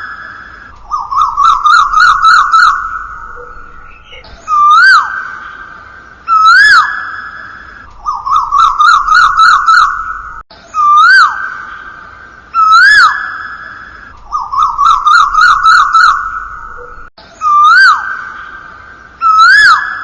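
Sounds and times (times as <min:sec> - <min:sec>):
electronic bird-like whistling: 0:00.0 - 0:05.6, 0:06.3 - 0:11.6, 0:12.6 - 0:18.4, 0:19.2 - 0:20.0.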